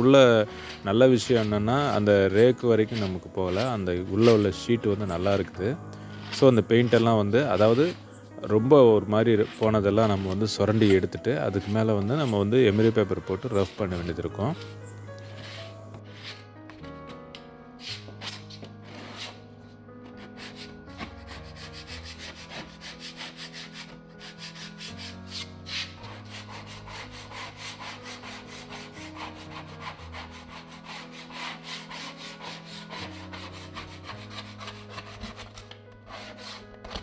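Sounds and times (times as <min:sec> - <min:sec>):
background music with low bass: 0:00.0 - 0:37.0
putty knife scraping metal: 0:00.0 - 0:37.0.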